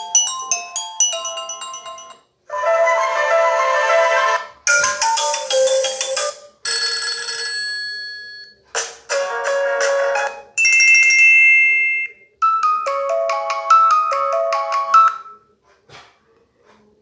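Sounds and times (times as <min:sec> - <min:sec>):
quick ringtone melody: 0:00.0 - 0:15.4.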